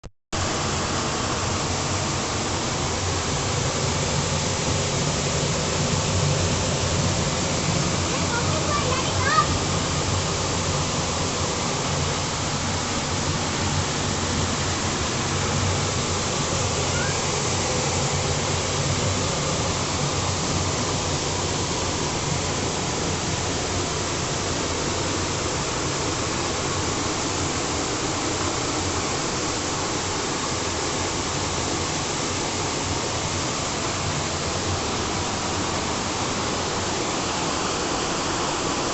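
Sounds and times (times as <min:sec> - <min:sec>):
waterfall roaring: 0:00.4 - 0:38.9.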